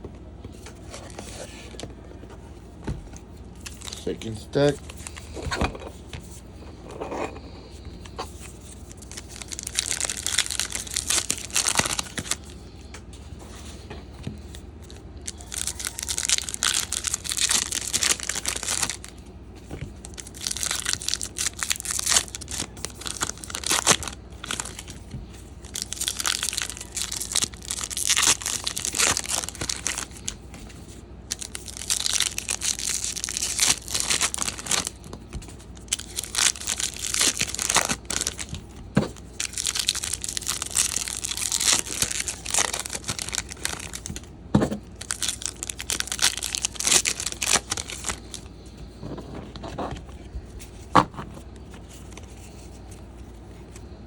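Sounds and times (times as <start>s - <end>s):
card wrappers crinkling and tearing: 3.5s - 6.0s, 7.7s - 12.8s, 14.4s - 54.0s.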